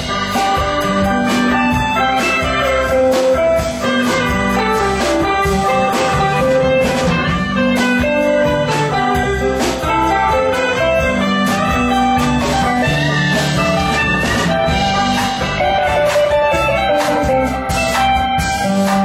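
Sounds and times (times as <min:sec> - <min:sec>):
drums steady beat: 0:00.0 - 0:19.0
guitars: 0:00.0 - 0:19.0
live band playing: 0:00.0 - 0:19.0.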